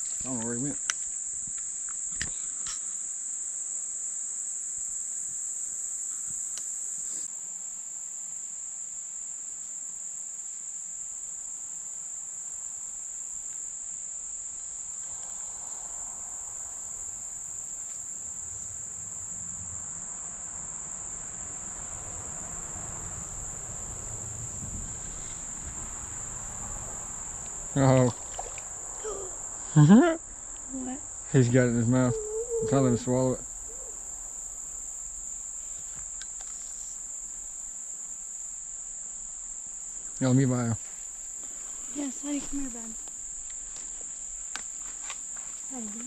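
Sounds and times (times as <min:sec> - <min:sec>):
high-pitched insect chorus: 0:00.0 - 0:46.0.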